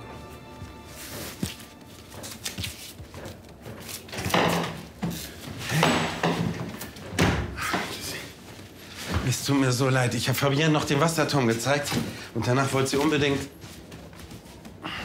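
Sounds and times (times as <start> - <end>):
footsteps in a small room: 0.0 - 11.0, 11.6 - 15.0.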